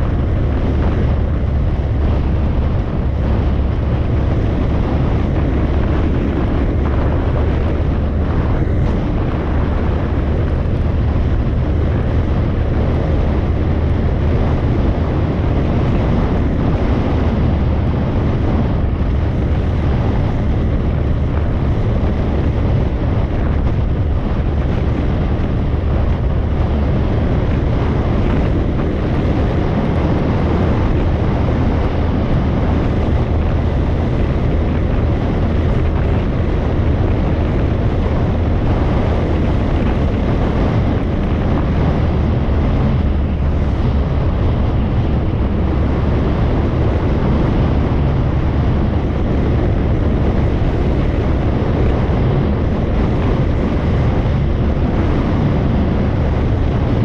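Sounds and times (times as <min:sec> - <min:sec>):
motorbike cruising: 0:00.0 - 0:57.0
wind rumble on microphone: 0:00.0 - 0:57.0.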